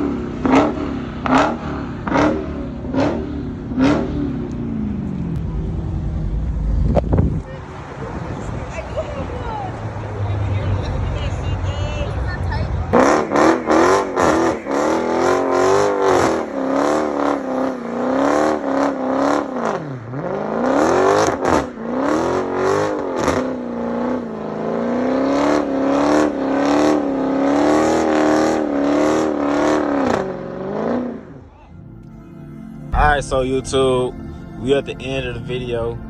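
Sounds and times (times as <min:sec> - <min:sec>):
car engine at high revs: 0:00.0 - 0:10.9, 0:12.6 - 0:31.5.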